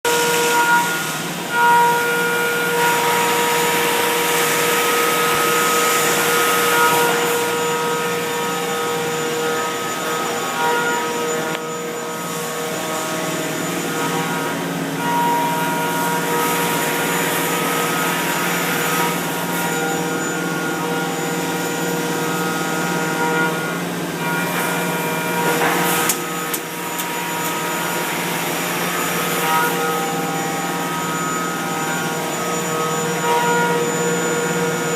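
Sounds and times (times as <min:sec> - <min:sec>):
milling machine cutting metal: 0:00.1 - 0:34.9.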